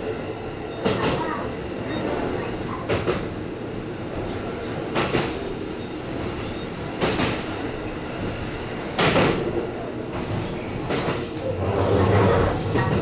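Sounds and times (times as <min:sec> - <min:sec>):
train rolling rumble: 0:00.0 - 0:13.0.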